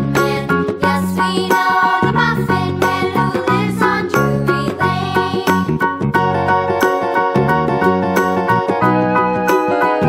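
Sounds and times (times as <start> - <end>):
children's background music: 0.0 - 10.0.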